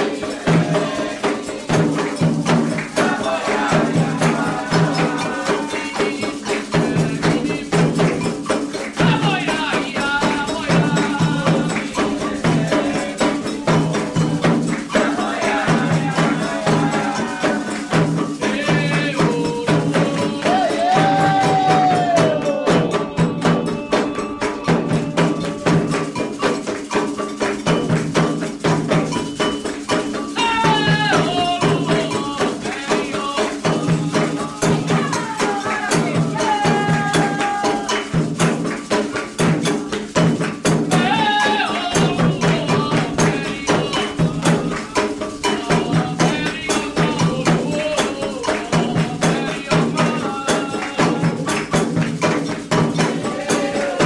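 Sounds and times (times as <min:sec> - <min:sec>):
hand drums and rattles: 0:00.0 - 0:54.0
voices singing: 0:00.0 - 0:54.0.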